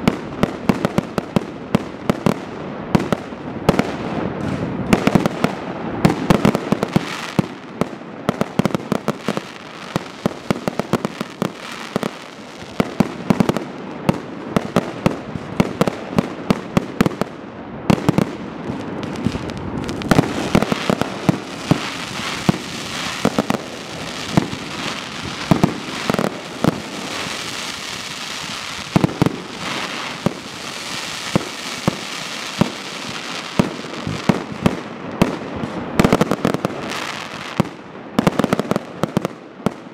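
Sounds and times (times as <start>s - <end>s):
crackling hiss of fireworks: 0.0s - 39.9s
fireworks bangs: 0.0s - 39.9s.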